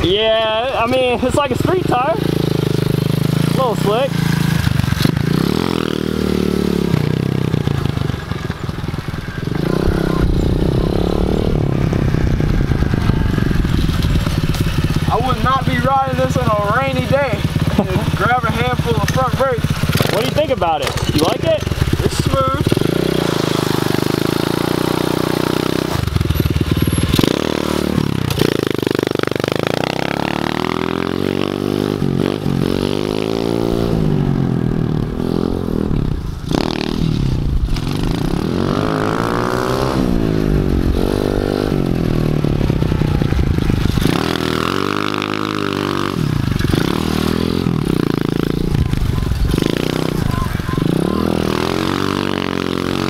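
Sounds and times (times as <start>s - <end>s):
pit bike engine revving: 0.0s - 53.0s.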